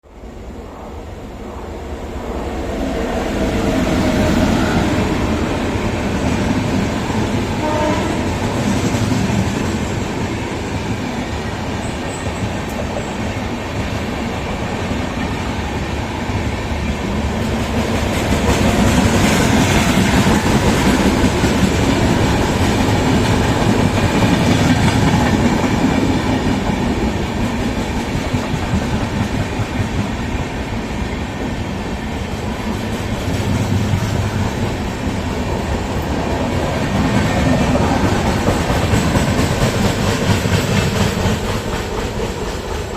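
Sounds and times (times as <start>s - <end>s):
train wheels rumbling and clattering: 1.5s - 42.9s.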